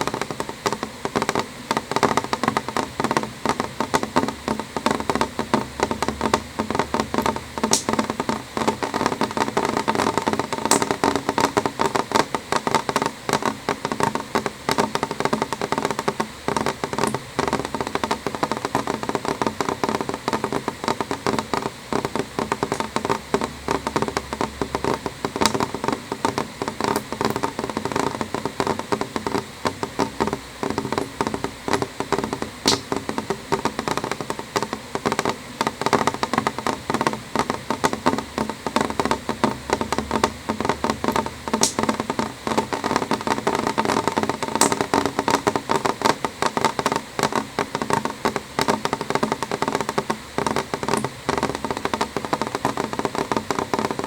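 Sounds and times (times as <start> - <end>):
rain tapping on window glass: 0.0 - 54.0.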